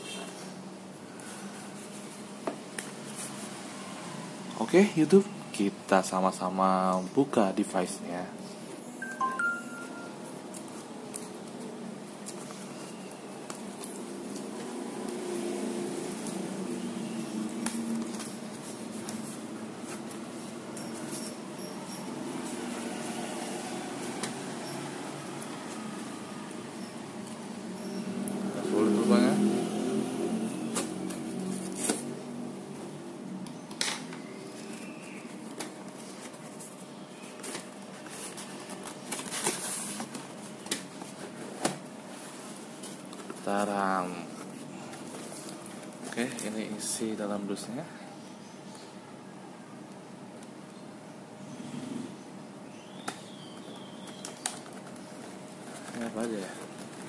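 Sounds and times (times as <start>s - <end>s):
faint background hum: 0.0s - 57.0s.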